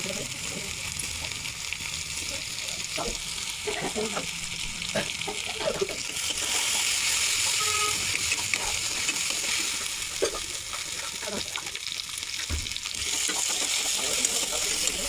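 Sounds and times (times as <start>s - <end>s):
food sizzling in hot oil: 0.0s - 15.0s
spoon stirring in pan: 2.3s - 15.0s.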